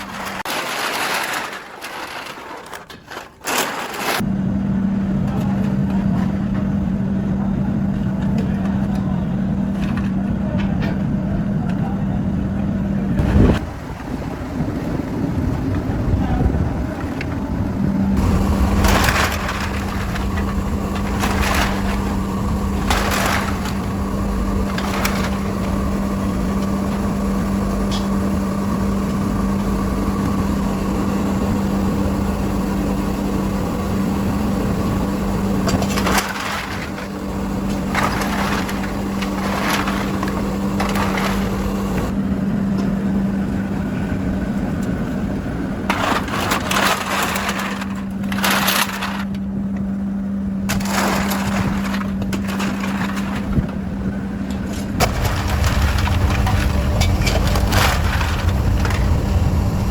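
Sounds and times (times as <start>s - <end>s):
machine humming: 4.2s - 59.9s.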